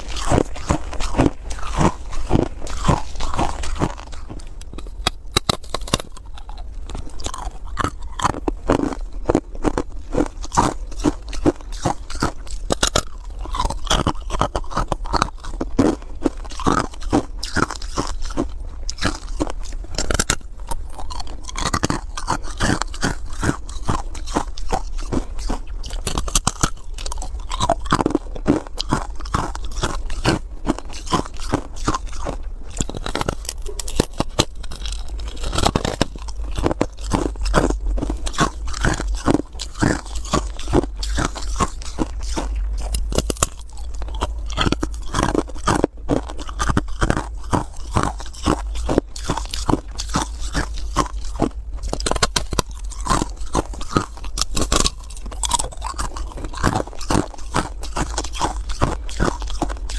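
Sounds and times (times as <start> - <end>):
ice cubes being chewed: 0.0 - 59.9
low steady rumble: 0.0 - 59.9.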